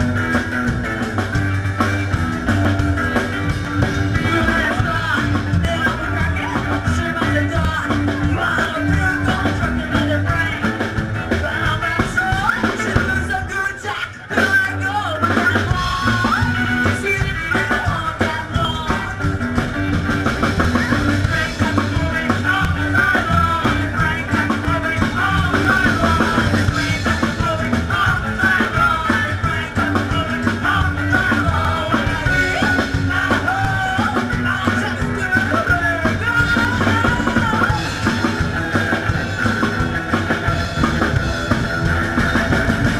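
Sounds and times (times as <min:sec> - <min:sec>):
rock and roll band playing: 0:00.0 - 0:42.9.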